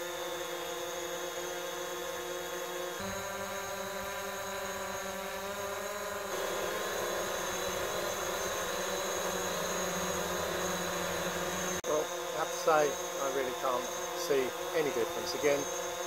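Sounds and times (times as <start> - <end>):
drone buzzing hum: 2.8 - 16.0
second drone hum: 3.0 - 16.0.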